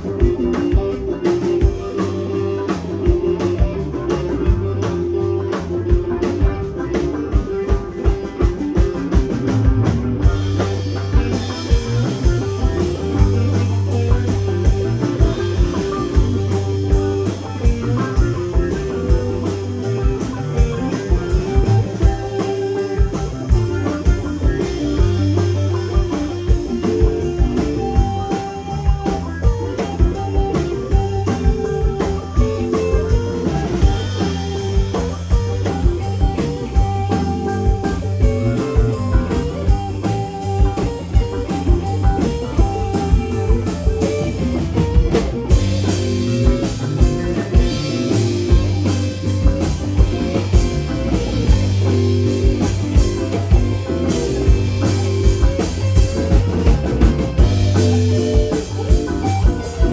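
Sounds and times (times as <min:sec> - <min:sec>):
bass guitar: 0:00.0 - 0:59.9
drum kit beat: 0:00.0 - 0:59.9
electric guitar lead: 0:00.0 - 0:59.9.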